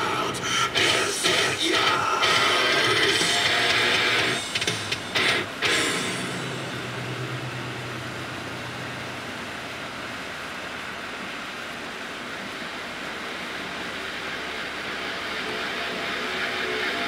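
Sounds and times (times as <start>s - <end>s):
car road and engine noise: 0.0s - 17.0s
low hum: 0.0s - 17.0s.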